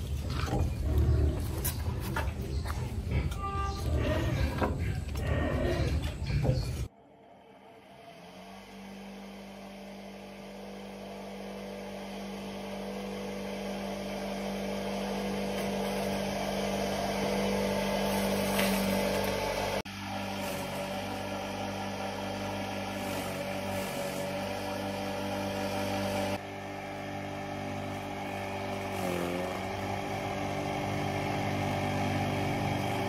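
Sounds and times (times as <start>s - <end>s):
crusher motor humming: 0.0s - 33.0s.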